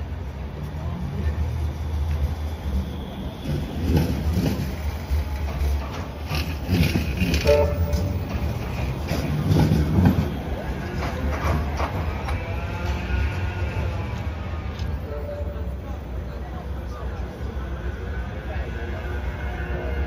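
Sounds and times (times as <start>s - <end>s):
tram running gear rumble: 0.0s - 20.0s.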